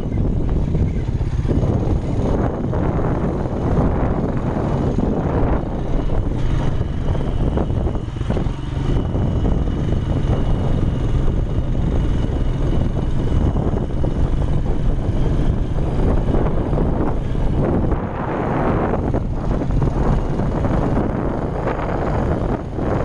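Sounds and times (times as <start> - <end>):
vehicle engine running: 0.0 - 23.0
wind on microphone: 0.0 - 23.0.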